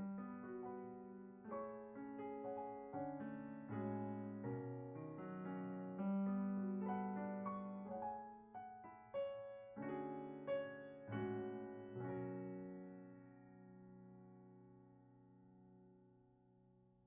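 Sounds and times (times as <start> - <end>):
slow soft piano music: 0.0 - 16.8.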